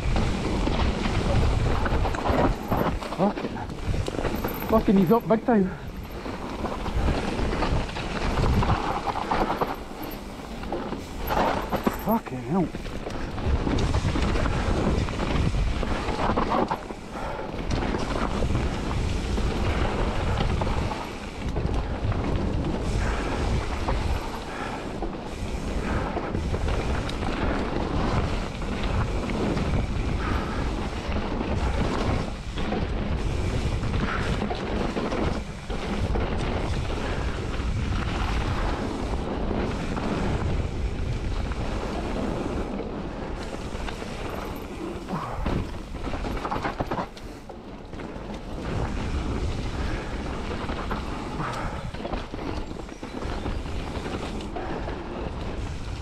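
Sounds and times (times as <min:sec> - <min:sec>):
bike tyres crunching on gravel: 0:00.0 - 0:56.0
wind buffeting microphone: 0:00.0 - 0:56.0.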